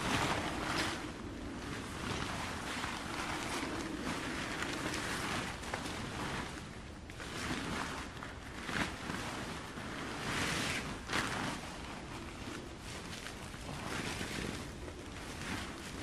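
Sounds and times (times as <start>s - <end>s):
wind buffeting microphone: 0.0s - 16.0s
wind gusting through trees: 0.0s - 16.0s.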